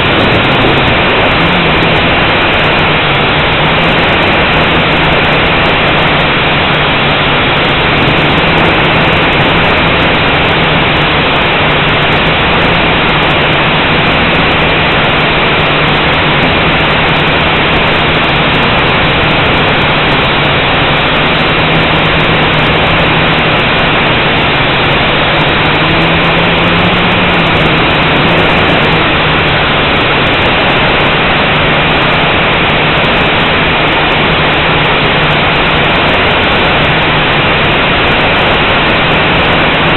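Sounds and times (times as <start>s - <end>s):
quadcopter motors humming: 0.0s - 39.9s
quadcopter propellers rushing hiss: 0.0s - 39.9s.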